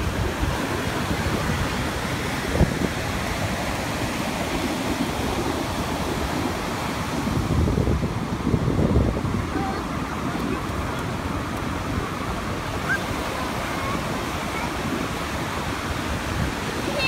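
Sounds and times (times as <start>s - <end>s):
ocean surf breaking: 0.0s - 17.0s
wind rumble on microphone: 0.0s - 17.0s.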